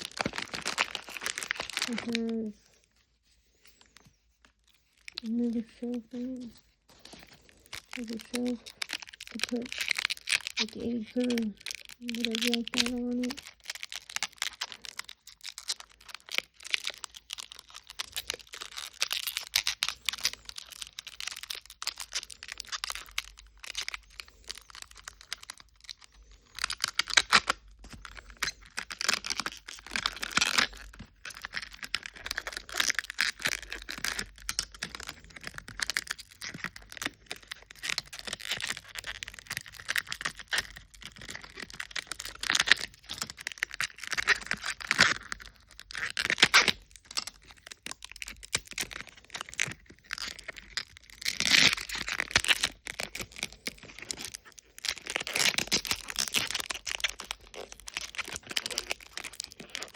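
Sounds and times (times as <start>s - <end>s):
plastic bags crinkling and tearing: 0.0s - 59.9s.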